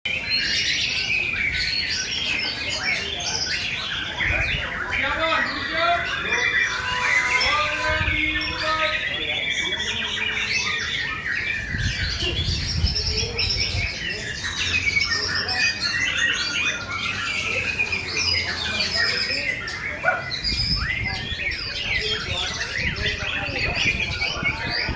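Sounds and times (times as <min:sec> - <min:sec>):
other birds singing: 0:00.1 - 0:24.9.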